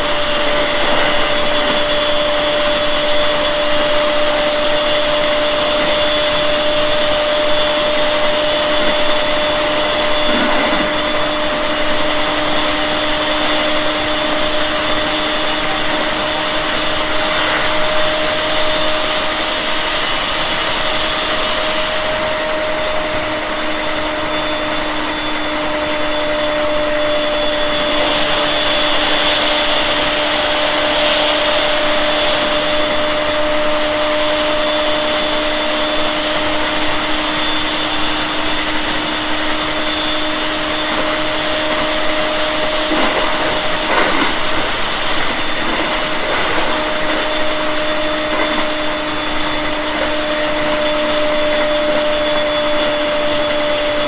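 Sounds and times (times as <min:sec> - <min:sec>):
steady train hum: 0:00.0 - 0:54.0
train wheels rushing on rail: 0:00.0 - 0:54.0.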